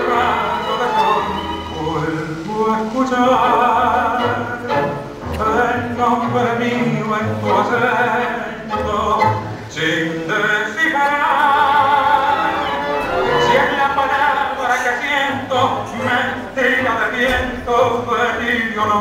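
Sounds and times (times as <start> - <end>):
tango music with singing: 0.0 - 19.0.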